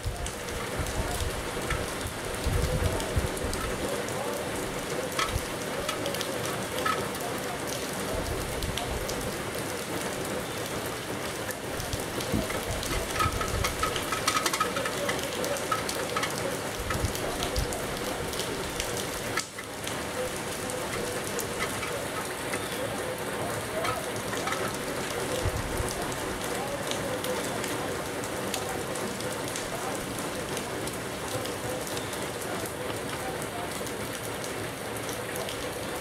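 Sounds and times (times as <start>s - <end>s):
rain falling on foliage: 0.0s - 36.0s.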